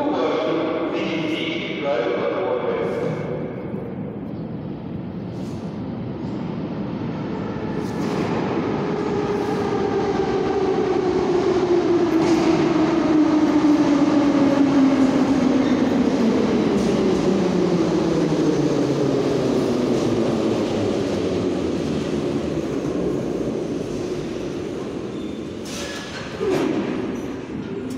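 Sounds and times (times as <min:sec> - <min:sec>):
train wheels rumbling: 0:00.0 - 0:27.9.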